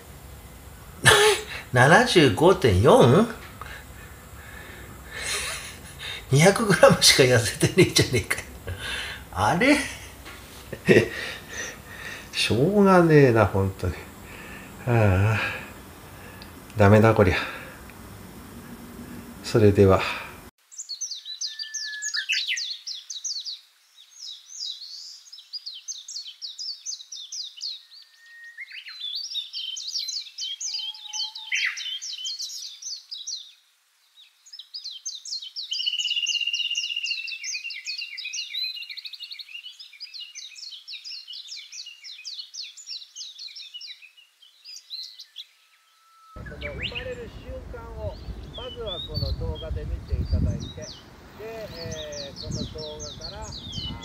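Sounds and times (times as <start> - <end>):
songbird twittering and trilling: 0.8 - 19.6, 20.6 - 54.0.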